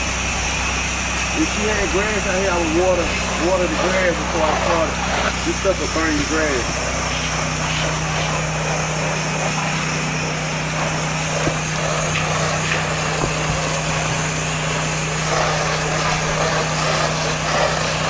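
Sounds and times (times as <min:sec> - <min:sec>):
pressure washer engine humming: 0:00.0 - 0:18.0
water spraying hiss: 0:00.0 - 0:18.0.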